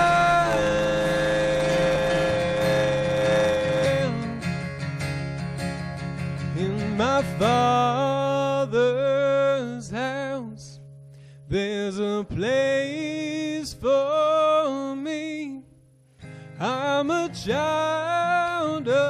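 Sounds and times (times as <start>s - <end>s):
man singing worship song: 0.0s - 4.6s, 6.5s - 10.8s, 11.5s - 15.6s, 16.6s - 19.0s
acoustic and electric guitars: 0.0s - 19.0s.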